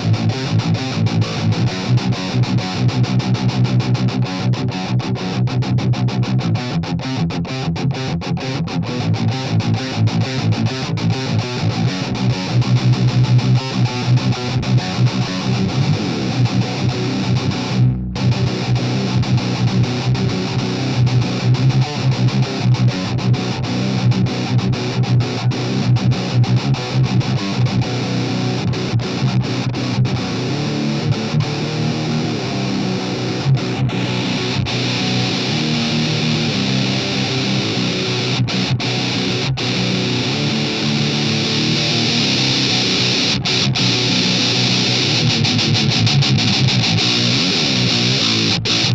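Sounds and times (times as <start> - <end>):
distorted electric guitar riffing: 0.0 - 48.9.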